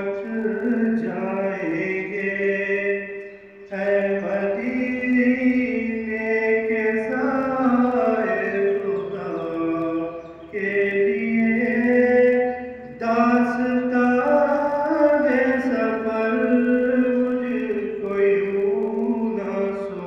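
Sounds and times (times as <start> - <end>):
man chanting devotional poem: 0.0 - 20.0.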